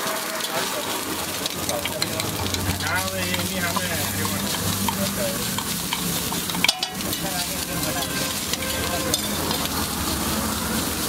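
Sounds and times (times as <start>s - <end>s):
egg sizzling on a griddle: 0.0s - 11.0s.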